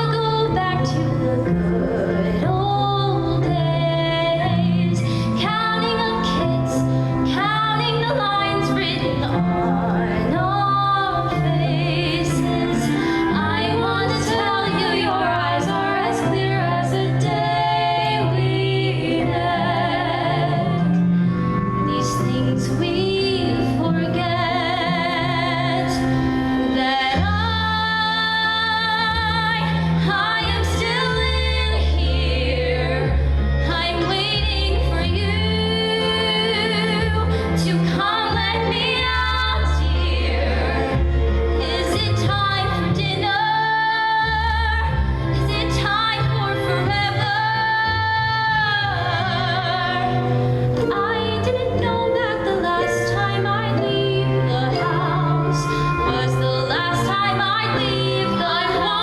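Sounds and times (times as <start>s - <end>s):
woman singing with vibrato: 0.0s - 21.0s, 21.9s - 59.0s
instrumental accompaniment: 0.0s - 59.0s.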